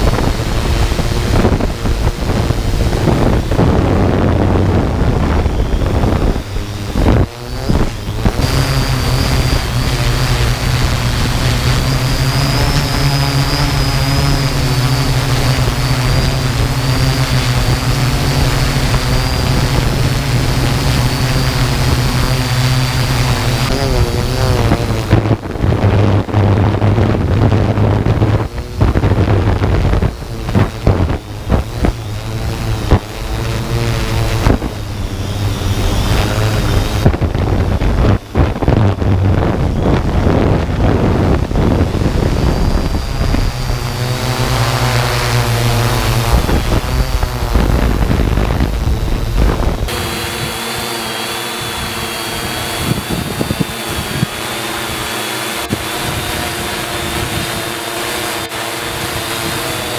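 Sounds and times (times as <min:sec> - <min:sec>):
drone motors whining: 0:00.0 - 0:59.9
wind buffeting microphone: 0:00.0 - 0:59.9.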